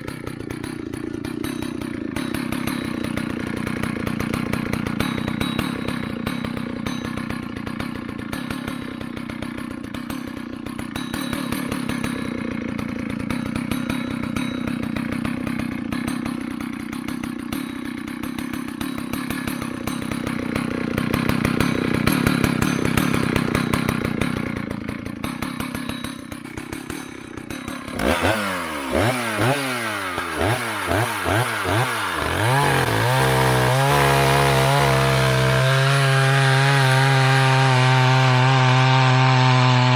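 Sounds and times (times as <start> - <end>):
chainsaw running and revving: 0.0 - 39.9.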